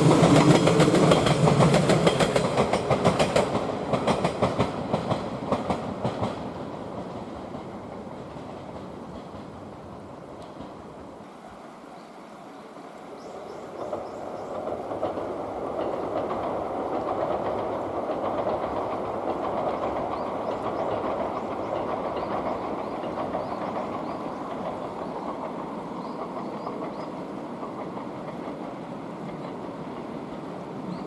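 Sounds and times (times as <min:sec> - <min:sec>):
train wheels clicking over rail joints: 0:00.0 - 0:10.9, 0:13.8 - 0:31.0.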